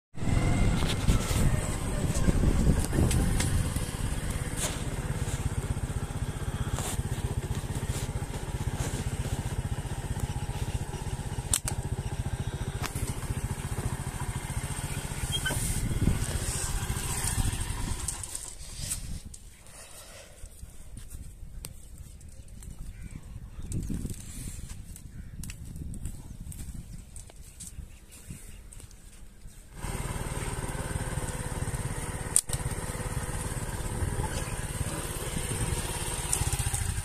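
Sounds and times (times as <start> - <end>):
engine rumbling: 0.1 - 27.8, 28.8 - 37.0.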